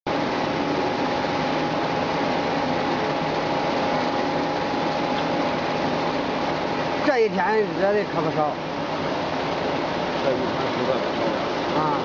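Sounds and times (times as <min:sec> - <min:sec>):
faint constant whine: 0:00.1 - 0:12.0
machinery hum: 0:00.1 - 0:12.0
noisy water wash: 0:00.1 - 0:12.0.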